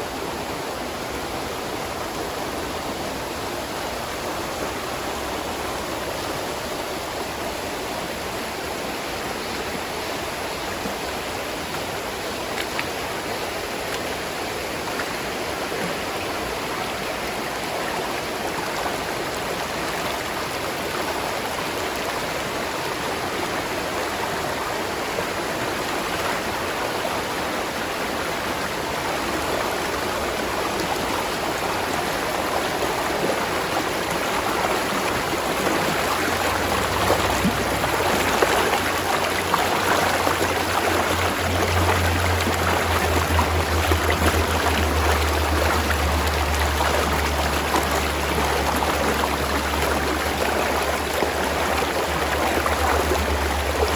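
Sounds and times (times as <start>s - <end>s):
water running over rocks: 0.0s - 53.9s.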